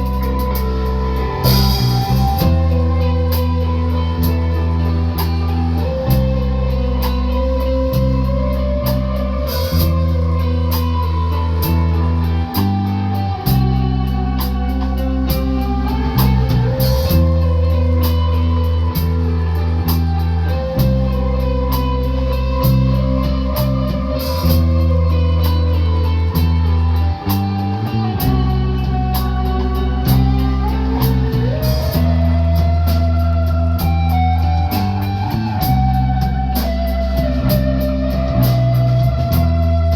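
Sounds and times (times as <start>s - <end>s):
bass line: 0.0s - 39.9s
drum kit with cymbal crashes: 0.0s - 39.9s
electric guitar: 0.0s - 39.9s.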